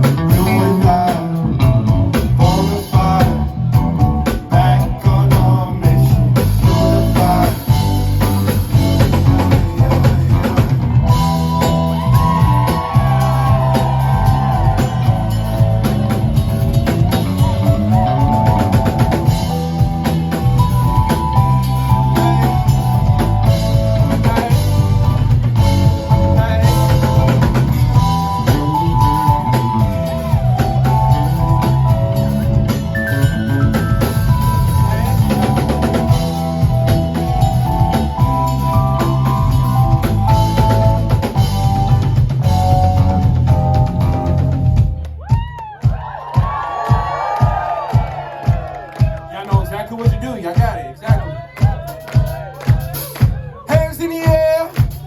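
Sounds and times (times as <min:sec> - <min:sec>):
held keyboard or guitar notes: 0:00.0 - 0:45.0
bass line: 0:00.0 - 0:55.0
drum kit beat: 0:00.0 - 0:55.0.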